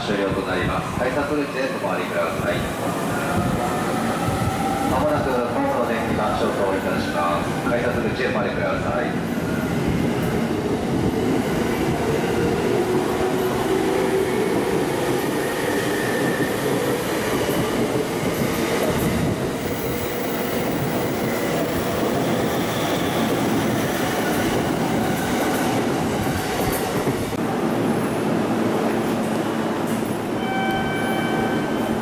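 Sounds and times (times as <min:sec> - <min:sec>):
train wheels rumbling and clattering: 0:00.0 - 0:30.4.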